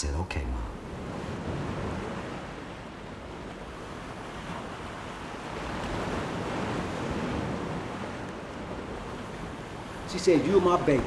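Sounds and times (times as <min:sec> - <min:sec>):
ocean waves washing in: 0:00.0 - 0:11.0.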